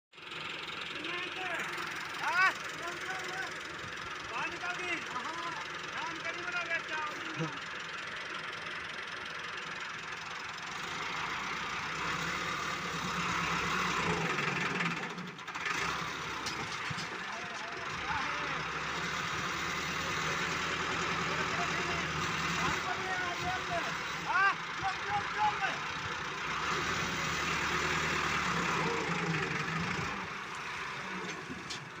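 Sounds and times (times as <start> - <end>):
tractor engine running: 0.1 - 32.0.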